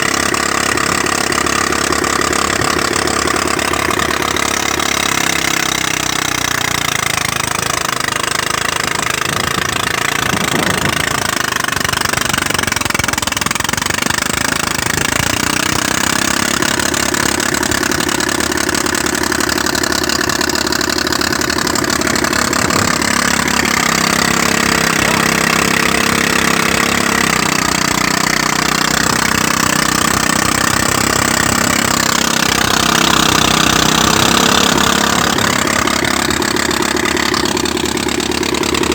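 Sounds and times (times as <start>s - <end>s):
threshing machine engine running: 0.0s - 38.9s.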